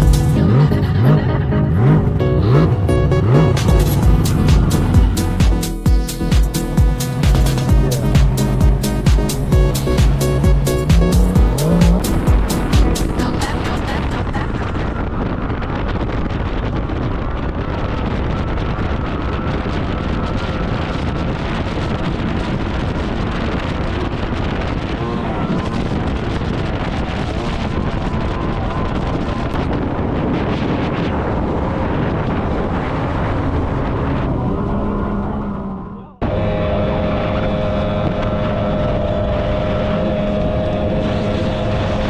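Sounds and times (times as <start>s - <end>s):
outboard motor running at speed: 0.0s - 42.0s
wind buffeting microphone: 0.0s - 42.0s.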